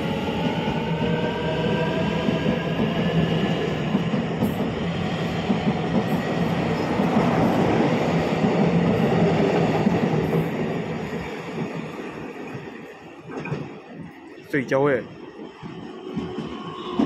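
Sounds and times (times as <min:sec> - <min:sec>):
train traction humming: 0:00.0 - 0:17.0
train wheels on rails: 0:00.0 - 0:17.0.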